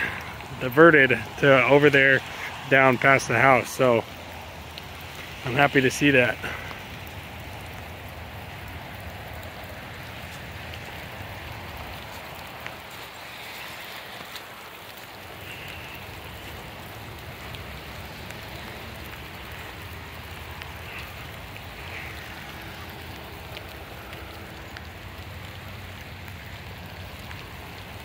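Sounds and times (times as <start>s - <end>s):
light rain on wet lawn: 0.0s - 28.0s.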